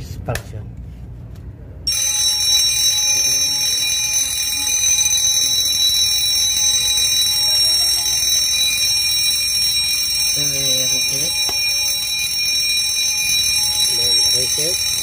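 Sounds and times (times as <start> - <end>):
fire alarm bell ringing: 1.9 - 15.0.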